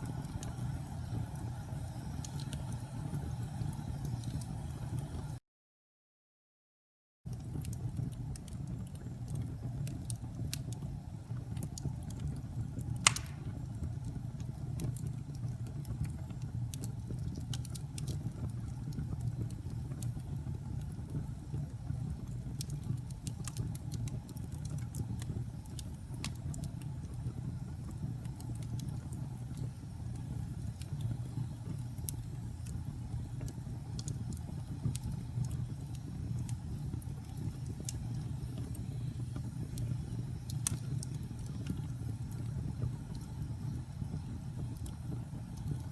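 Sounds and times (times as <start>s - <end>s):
wood fire crackling: 0.0s - 5.4s, 7.3s - 45.9s.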